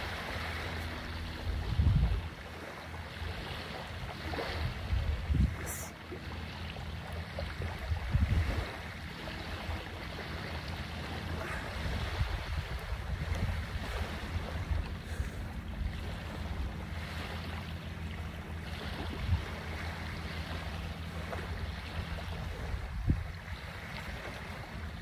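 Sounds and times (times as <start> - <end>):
wind buffeting microphone: 0.0 - 2.6, 3.3 - 5.9, 7.4 - 10.5, 11.2 - 17.3, 18.7 - 25.0
surf: 0.0 - 25.0.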